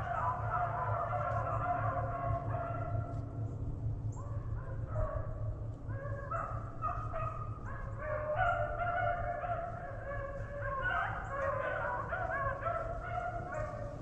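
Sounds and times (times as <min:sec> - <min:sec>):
dogs baying and howling: 0:00.0 - 0:14.0
steady low rumble: 0:00.0 - 0:14.0.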